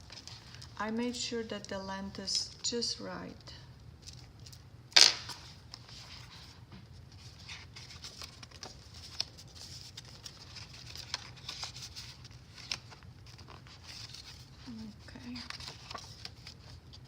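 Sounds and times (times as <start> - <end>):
paper pages rustling: 0.0 - 0.8, 4.0 - 17.0.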